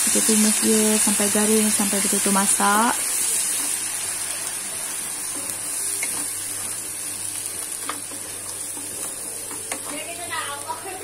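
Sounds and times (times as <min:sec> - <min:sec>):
spice paste sizzling in oil: 0:00.0 - 0:11.0.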